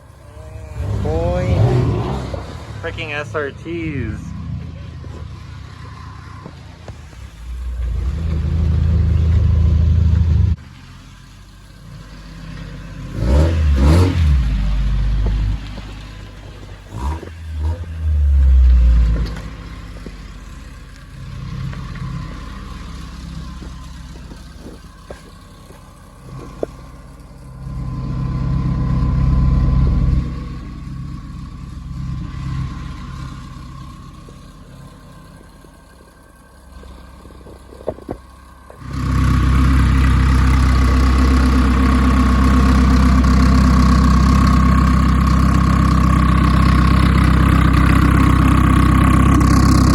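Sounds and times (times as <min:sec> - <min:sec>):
car engine revving: 0:00.0 - 0:49.9
loud steady engine: 0:00.0 - 0:49.9.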